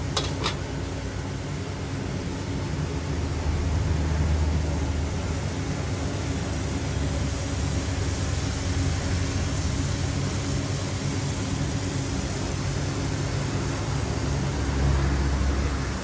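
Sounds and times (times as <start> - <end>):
gas wok burner rushing: 0.0 - 16.0.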